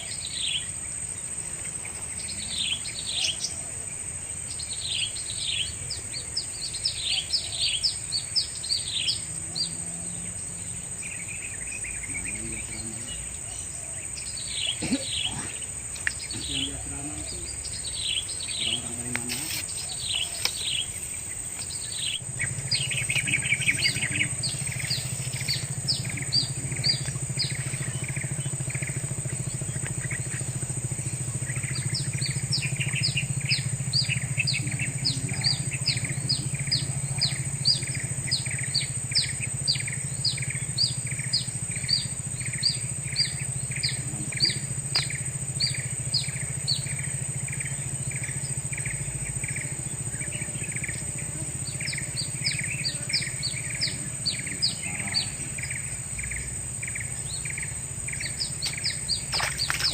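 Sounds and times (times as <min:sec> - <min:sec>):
bird chirping: 0:00.0 - 0:59.9
high-pitched whine: 0:00.0 - 0:59.9
low steady hum: 0:00.0 - 0:59.9.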